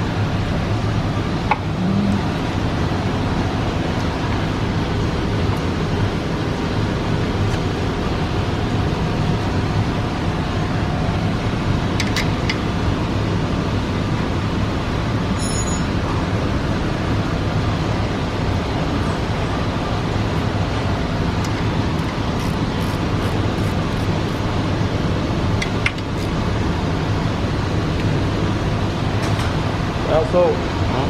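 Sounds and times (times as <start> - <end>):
mechanical hum with low drone: 0.0 - 31.0.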